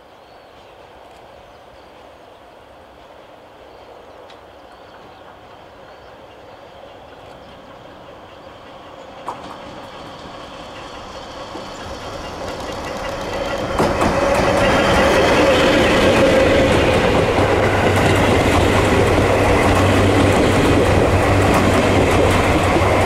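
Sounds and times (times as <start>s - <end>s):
train rumble and wheel noise: 0.0s - 23.0s.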